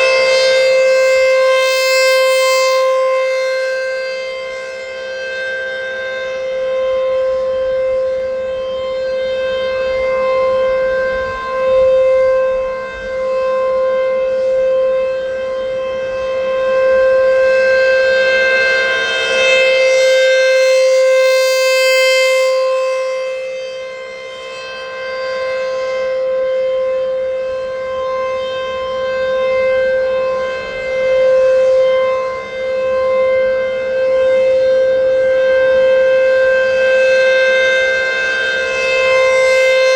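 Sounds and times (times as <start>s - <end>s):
electronic warning siren steady tone: 0.0s - 39.9s.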